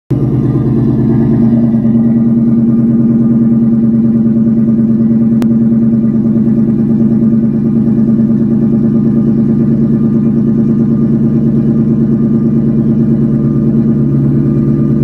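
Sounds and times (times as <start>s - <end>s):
car engine idling: 0.1s - 15.0s.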